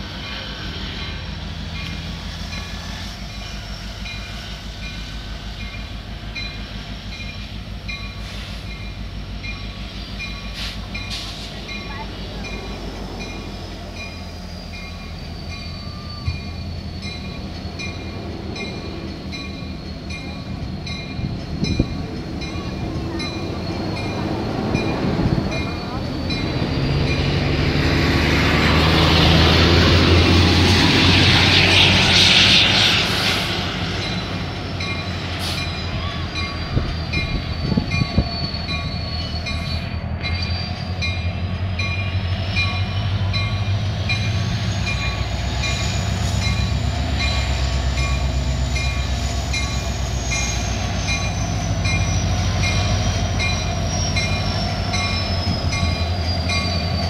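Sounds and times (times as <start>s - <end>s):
diesel locomotive engine rumble: 0.0s - 57.0s
high wheel squeal: 0.1s - 57.0s.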